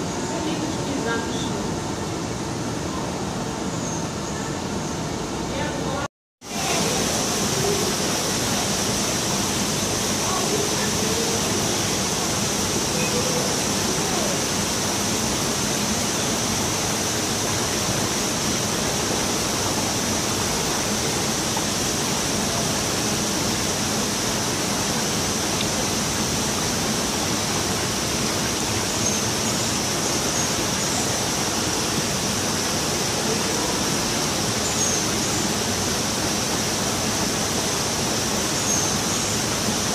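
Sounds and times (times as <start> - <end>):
water splashing into pond: 6.4 - 39.9.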